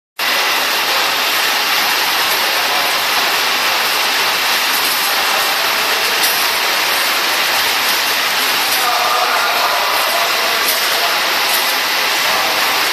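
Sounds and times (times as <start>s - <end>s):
packing machine hissing: 0.2s - 12.9s.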